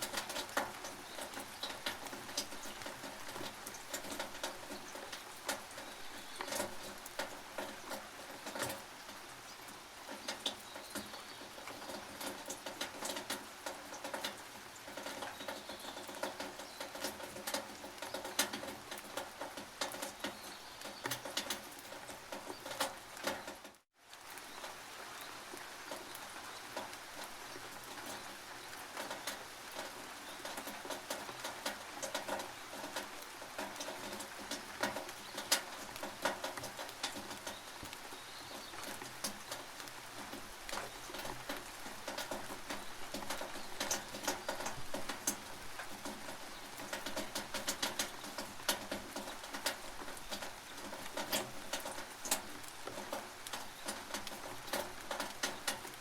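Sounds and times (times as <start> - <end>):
rain dripping on a tin roof: 0.0 - 56.0.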